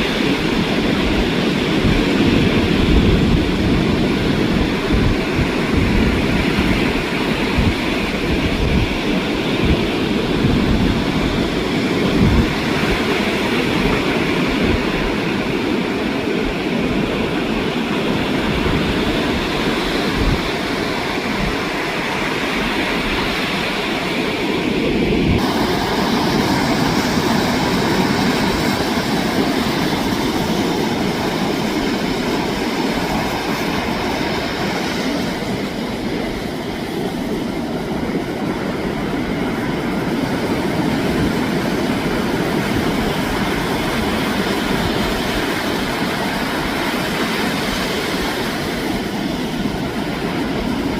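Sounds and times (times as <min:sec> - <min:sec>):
ocean waves breaking: 0:00.0 - 0:50.9
wind buffeting microphone: 0:00.0 - 0:50.9.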